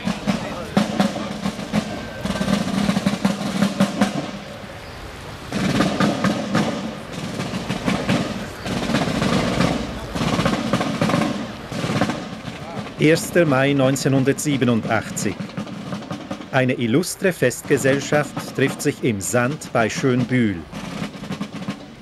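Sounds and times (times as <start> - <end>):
military side drums marching cadence: 0.0 - 22.0.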